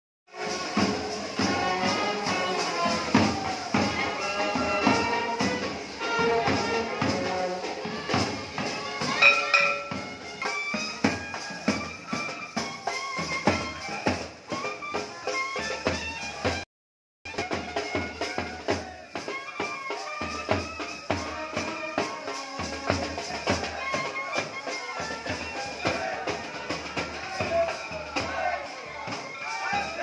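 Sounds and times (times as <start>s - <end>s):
percussion beats: 0.3s - 16.6s, 17.3s - 30.0s
wind instruments playing melody: 0.3s - 16.6s, 17.3s - 30.0s.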